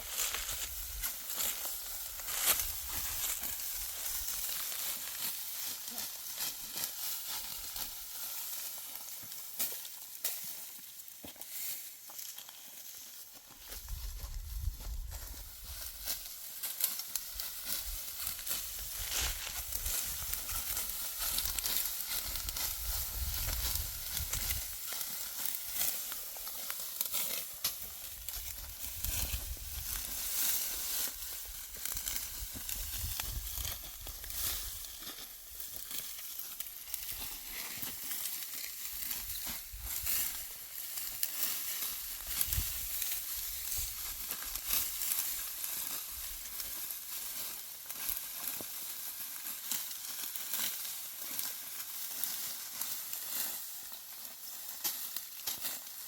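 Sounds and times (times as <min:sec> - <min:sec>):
dry crackling and rustling: 0:00.0 - 0:56.0.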